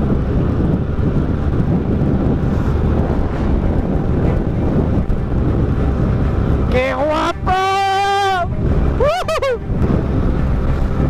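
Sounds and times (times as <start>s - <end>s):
motorcycle engine running at speed: 0.0s - 11.0s
wind buffeting microphone: 0.0s - 11.0s.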